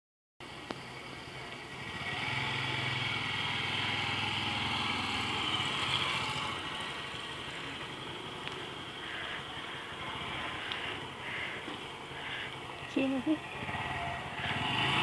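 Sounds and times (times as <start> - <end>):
mini motorcycle passing: 0.9 - 15.0.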